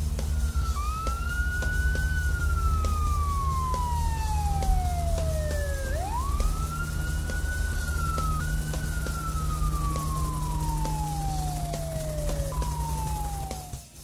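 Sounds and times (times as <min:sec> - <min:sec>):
police siren wailing: 0:00.0 - 0:13.8
steady low hum: 0:00.0 - 0:14.0.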